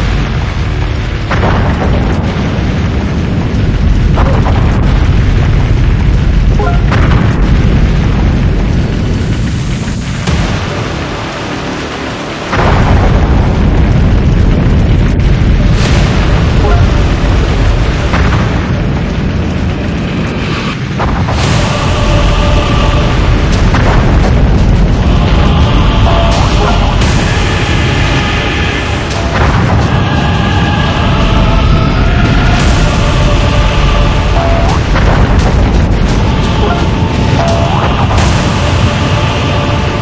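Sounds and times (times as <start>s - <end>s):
storm wind buffeting microphone: 0.0s - 40.0s.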